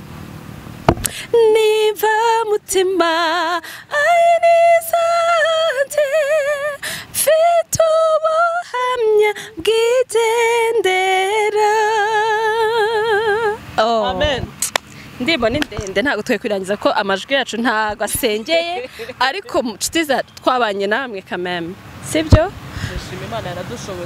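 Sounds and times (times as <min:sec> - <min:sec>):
woman singing a cappella: 0:01.1 - 0:14.6, 0:15.2 - 0:22.5.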